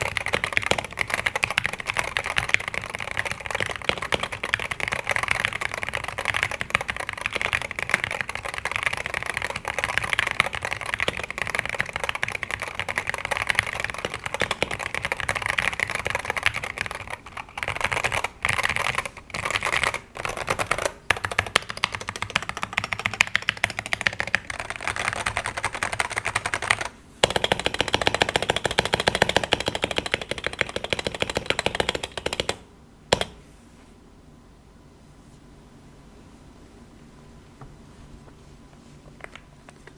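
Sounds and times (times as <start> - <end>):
rapid keyboard typing: 0.0 - 33.4.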